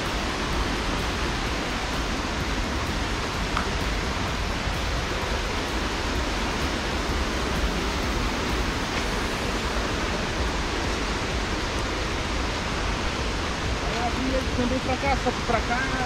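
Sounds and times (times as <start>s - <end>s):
waterfall rushing water: 0.0s - 16.0s.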